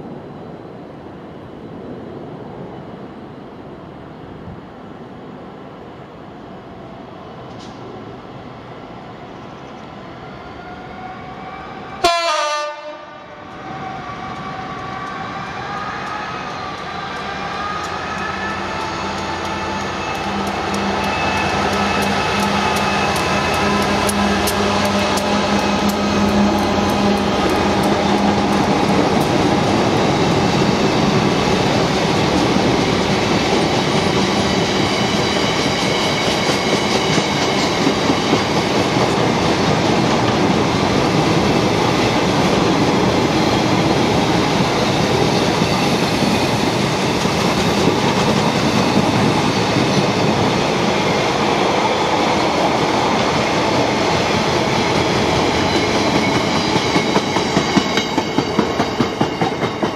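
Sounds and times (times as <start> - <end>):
diesel locomotive engine: 0.0 - 59.9
train wheels rumbling on rails: 0.0 - 59.9.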